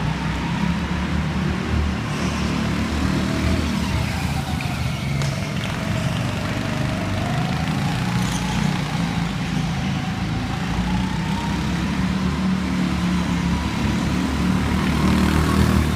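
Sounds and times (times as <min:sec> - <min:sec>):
go-kart motor droning: 0:00.0 - 0:15.9.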